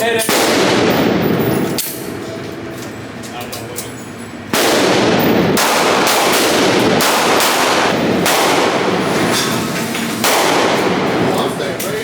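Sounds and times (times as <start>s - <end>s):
echoing gunshots: 0.2s - 3.2s, 4.4s - 11.8s.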